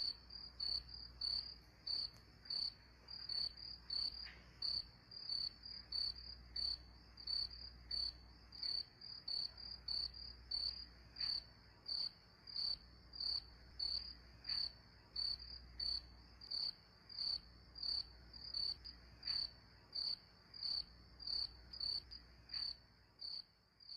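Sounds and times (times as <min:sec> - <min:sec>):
cricket chirping: 0:00.0 - 0:23.9.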